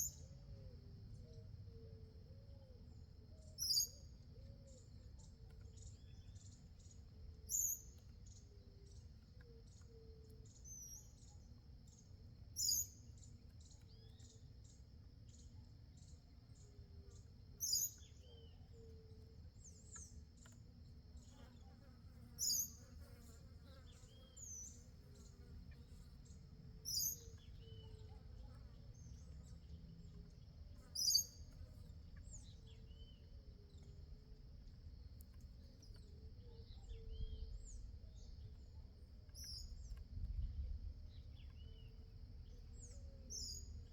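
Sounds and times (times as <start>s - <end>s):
soft bird chirps: 0.0s - 43.9s.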